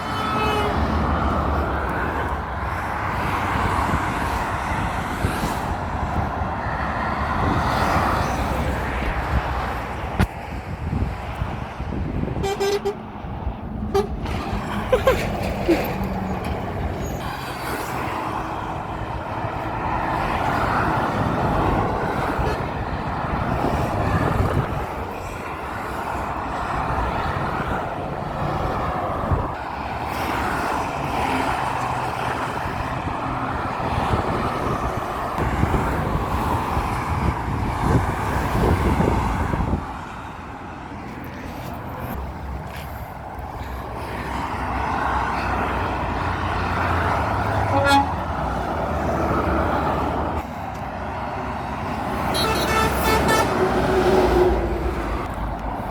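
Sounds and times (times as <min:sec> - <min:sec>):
trucks and cars driving past: 0:00.0 - 0:55.9.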